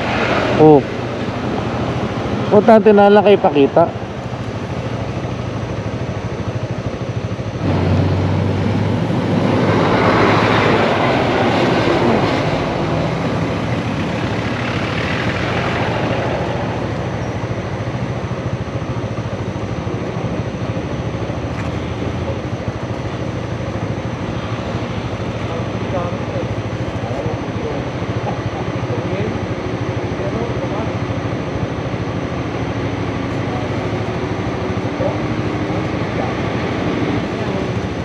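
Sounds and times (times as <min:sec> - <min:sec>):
motorcycle engine: 0:00.0 - 0:38.0.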